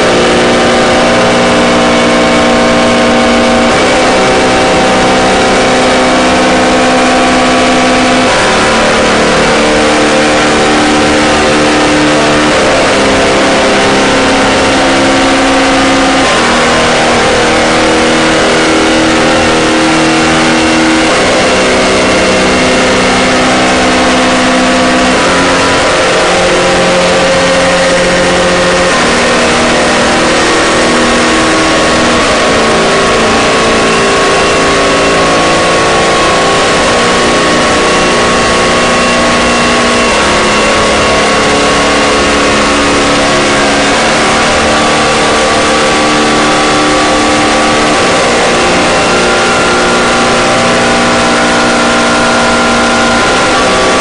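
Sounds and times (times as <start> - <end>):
distorted noise wall: 0.0 - 54.0
sustained drone tones: 0.0 - 54.0.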